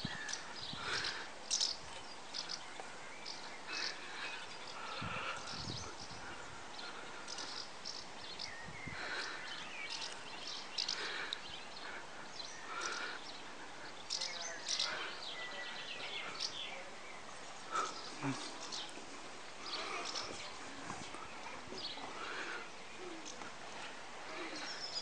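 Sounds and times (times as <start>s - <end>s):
steady background hiss: 0.0s - 25.0s
swallows twittering: 0.0s - 25.0s.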